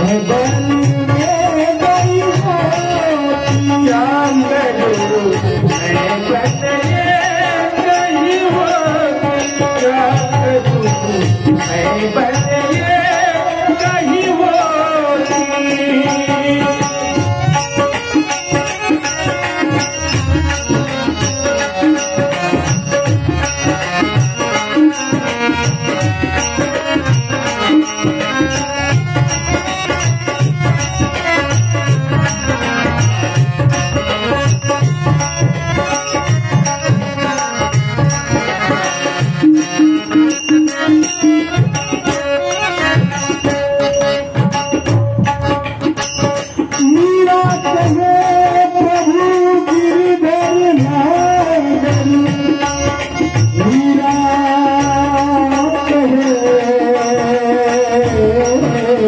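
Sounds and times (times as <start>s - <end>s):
hand drums steady beat: 0.0s - 59.0s
held melodic notes: 0.0s - 59.0s.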